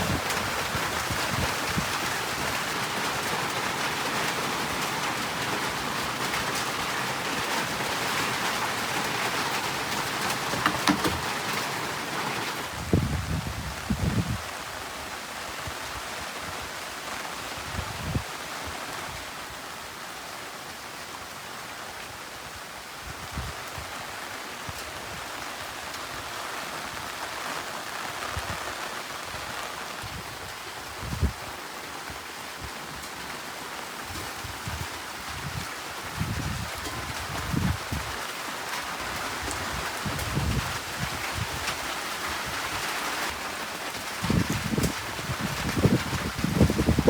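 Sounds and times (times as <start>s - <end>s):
heavy rain hiss: 0.0s - 47.0s.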